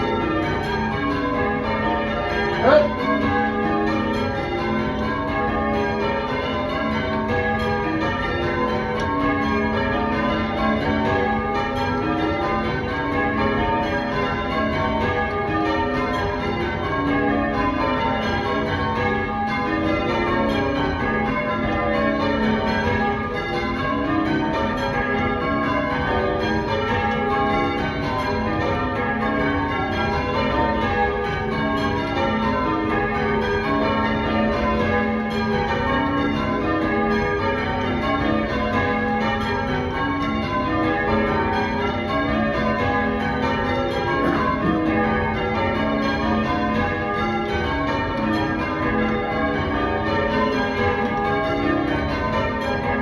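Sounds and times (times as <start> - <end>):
church bells change ringing: 0.0 - 53.0.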